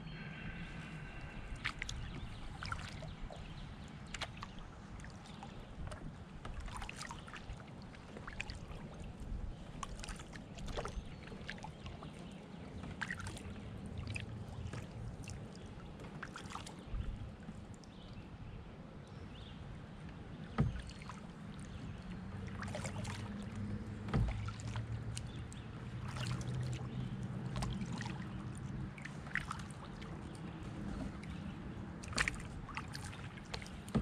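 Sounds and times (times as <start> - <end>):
low steady rumble: 0.0 - 34.0
paddle splashing water: 0.2 - 34.0.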